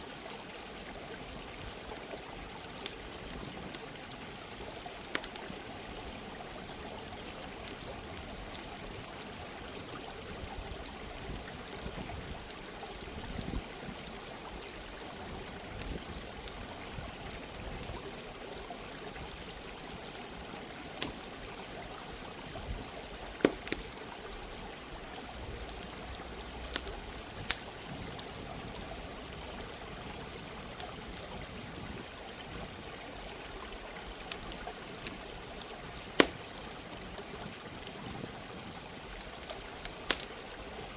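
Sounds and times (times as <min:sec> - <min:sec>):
running water rushing: 0:00.0 - 0:40.9
campfire crackling and popping: 0:00.1 - 0:40.9.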